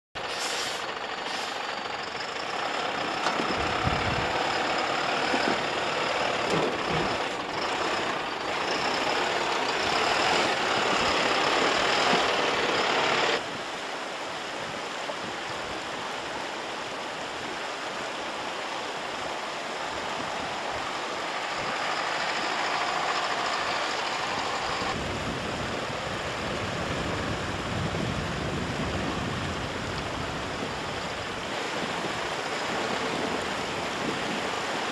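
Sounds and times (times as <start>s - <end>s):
truck diesel engine running: 0.2s - 13.4s, 19.3s - 34.9s.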